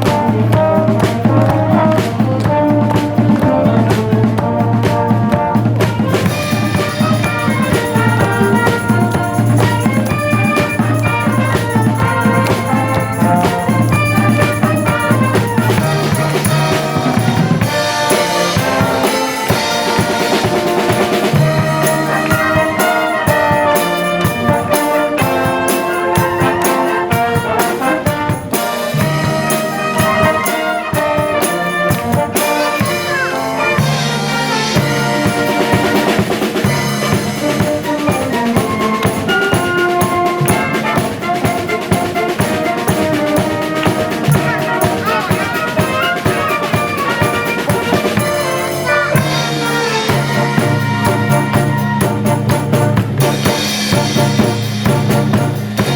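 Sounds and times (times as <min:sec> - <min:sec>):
brass band playing: 0:00.0 - 0:55.9.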